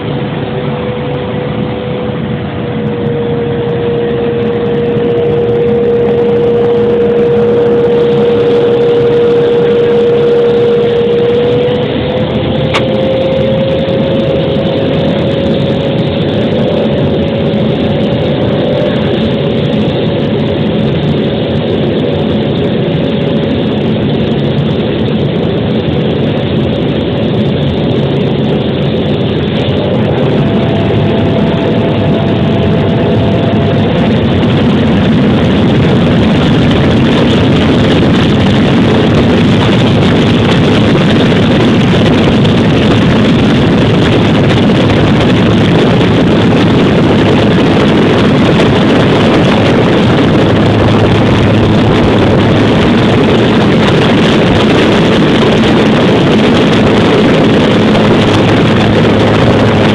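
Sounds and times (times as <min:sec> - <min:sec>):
turboprop engine running: 0:00.0 - 0:59.9.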